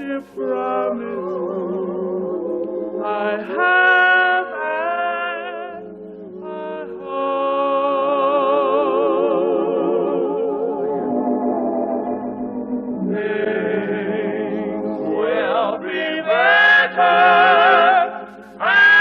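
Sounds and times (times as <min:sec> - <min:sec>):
gospel singing with vibrato: 0:00.0 - 0:19.0.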